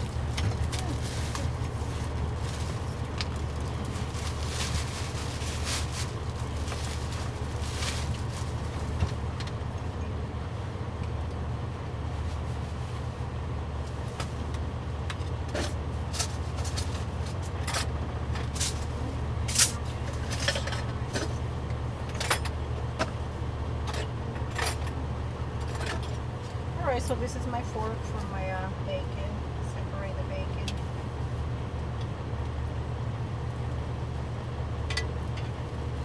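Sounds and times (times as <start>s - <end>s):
truck engine idling: 0.0s - 36.0s.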